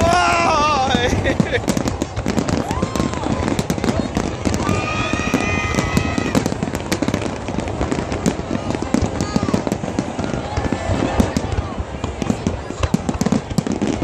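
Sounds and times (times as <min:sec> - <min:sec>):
fireworks bursting and crackling: 0:00.0 - 0:14.0.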